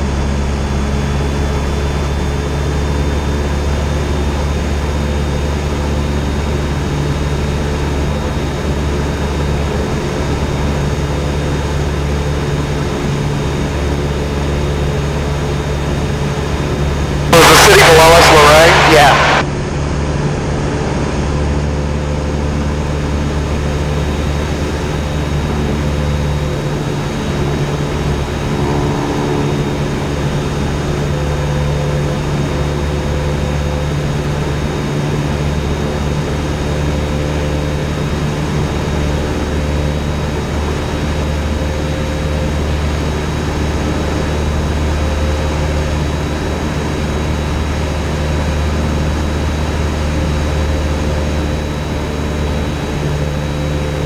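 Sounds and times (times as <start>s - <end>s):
propeller plane engine drone: 0.0s - 54.0s.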